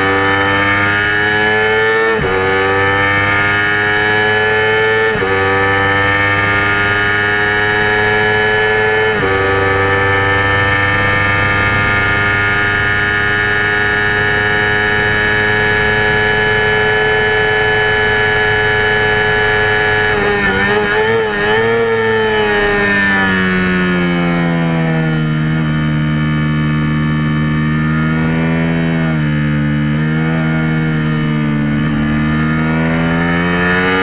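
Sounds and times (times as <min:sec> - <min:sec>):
motorcycle engine revving high: 0:00.0 - 0:34.0.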